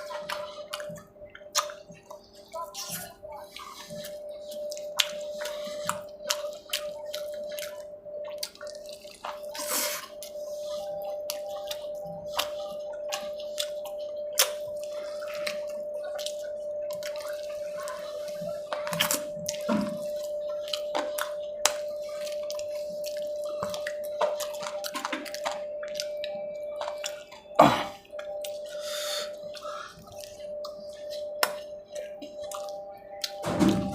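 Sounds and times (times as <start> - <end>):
mouth smacks while chewing: 0.0 - 33.4
steady hum: 0.0 - 33.9.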